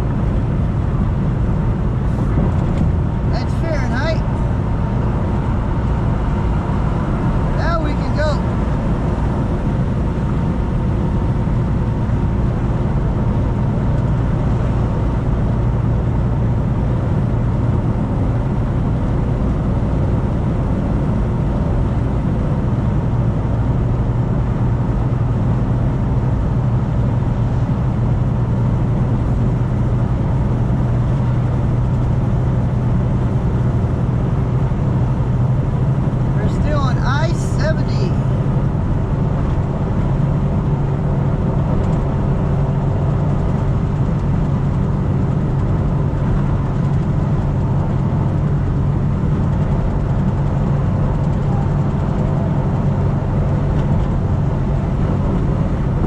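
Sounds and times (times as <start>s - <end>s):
road noise: 0.0s - 56.0s
truck engine drone: 0.0s - 56.0s.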